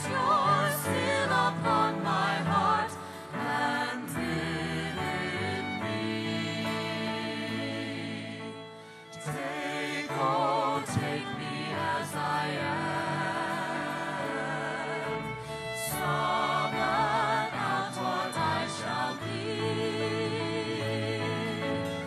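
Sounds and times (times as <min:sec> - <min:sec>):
sustained music backing: 0:00.0 - 0:22.0.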